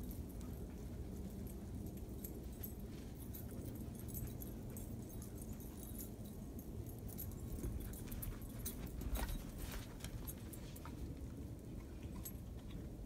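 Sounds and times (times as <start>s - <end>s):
light metallic jingling: 0.0s - 13.0s.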